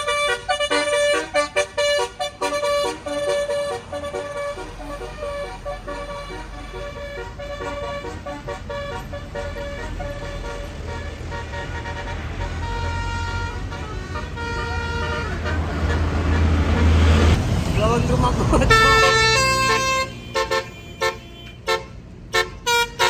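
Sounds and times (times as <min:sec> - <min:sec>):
bus musical horn melody: 0:00.0 - 0:17.4, 0:18.1 - 0:23.0.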